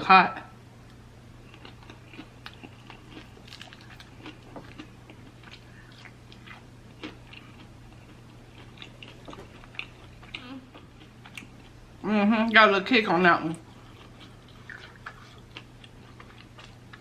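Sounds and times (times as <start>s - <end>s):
person chewing food: 1.4s - 11.9s, 13.6s - 17.0s.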